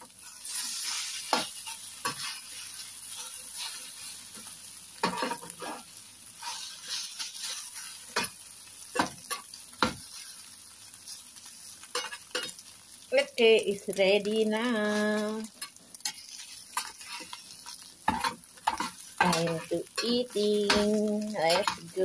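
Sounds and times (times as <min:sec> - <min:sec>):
food sizzling in a pan: 0:00.0 - 0:22.0
metal spatula scraping a pan: 0:00.2 - 0:10.5, 0:11.1 - 0:12.6, 0:14.9 - 0:22.0.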